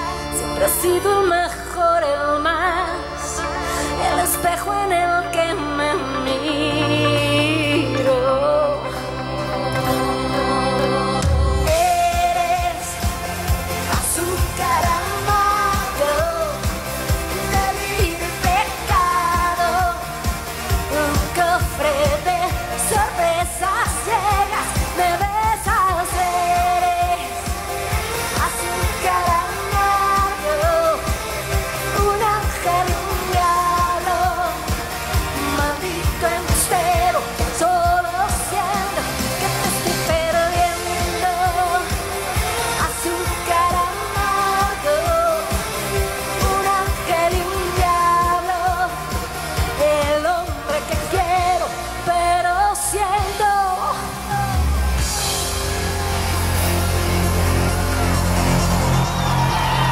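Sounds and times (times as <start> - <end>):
live pop band playing: 0.0 - 59.9
person singing: 0.0 - 59.9.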